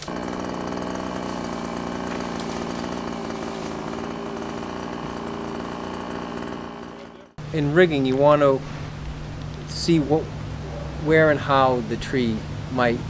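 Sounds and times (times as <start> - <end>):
chainsaw engine running: 0.0 - 13.0.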